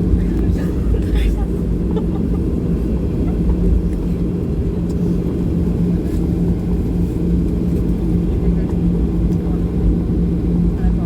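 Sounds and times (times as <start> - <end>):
aircraft engines rumbling in cabin: 0.0 - 11.0.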